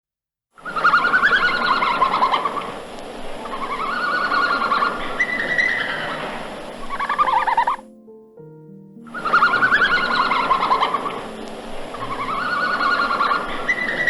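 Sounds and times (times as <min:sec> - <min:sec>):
bird warbling song: 0:00.7 - 0:08.0, 0:09.0 - 0:14.0.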